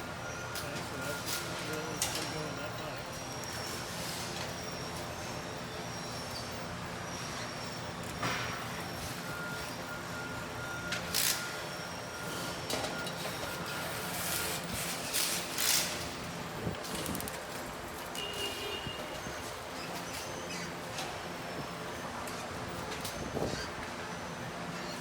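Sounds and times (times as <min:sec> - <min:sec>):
thin machine whine: 0:00.0 - 0:25.0.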